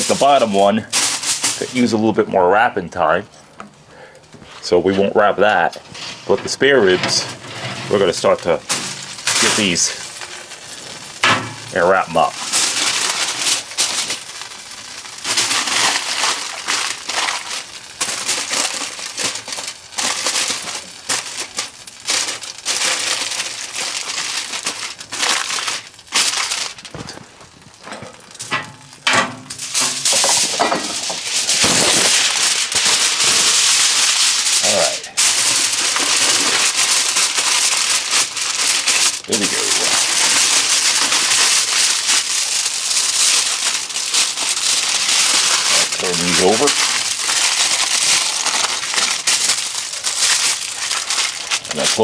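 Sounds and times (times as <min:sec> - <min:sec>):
aluminium foil crinkling: 0:00.0 - 0:52.0.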